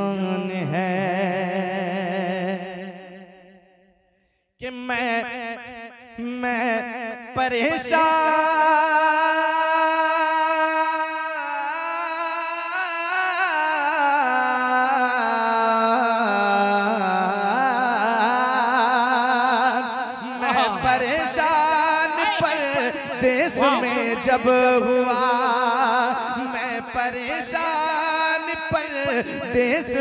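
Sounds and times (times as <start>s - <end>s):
man singing with vibrato: 0.0s - 3.6s, 4.6s - 30.0s.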